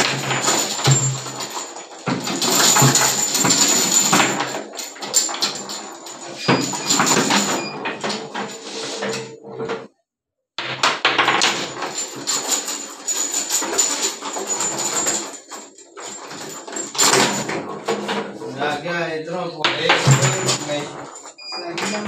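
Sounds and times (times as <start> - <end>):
table football clatter: 0.0 - 8.6, 10.6 - 18.4, 19.7 - 22.0.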